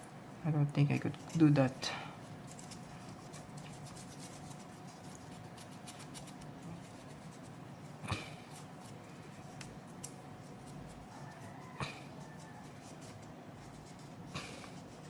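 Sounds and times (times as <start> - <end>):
cotton swab scratchy rubbing: 1.0 - 15.0.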